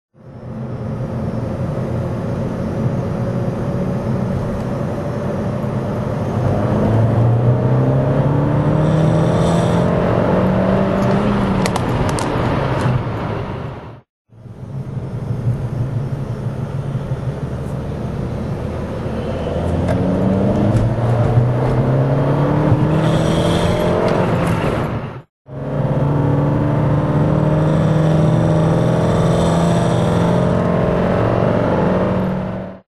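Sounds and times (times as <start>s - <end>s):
car engine accelerating: 0.8s - 32.8s.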